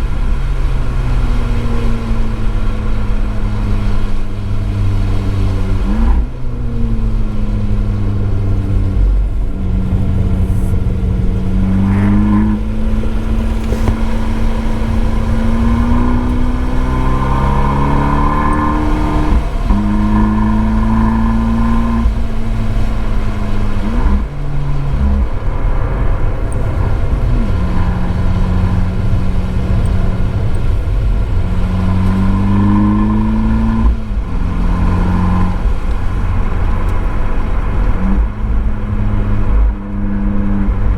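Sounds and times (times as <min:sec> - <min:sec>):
car engine revving through gears: 0:00.0 - 0:40.9.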